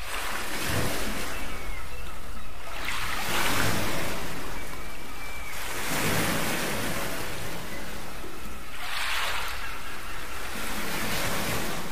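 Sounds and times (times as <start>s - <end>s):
waves washing on sandy beach: 0.0s - 2.0s, 2.6s - 11.9s.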